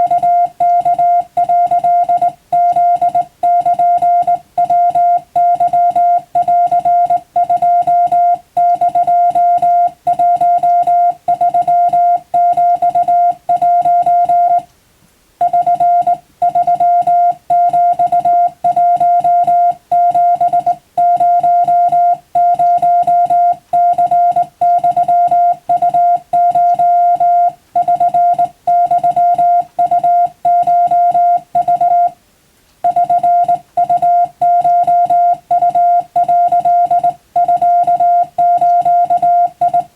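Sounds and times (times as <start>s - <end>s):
morse code tone: 0.0s - 14.7s, 15.4s - 32.2s, 32.8s - 39.9s.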